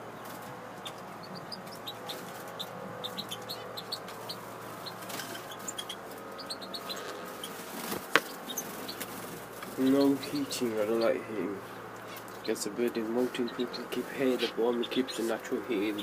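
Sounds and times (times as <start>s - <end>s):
finches chirping: 0.8s - 16.0s.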